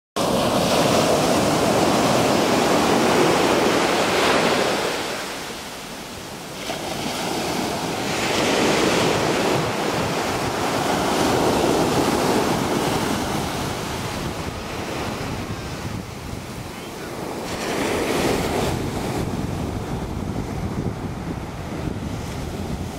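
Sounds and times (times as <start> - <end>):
ocean surf on gravel beach: 0.2 - 22.9.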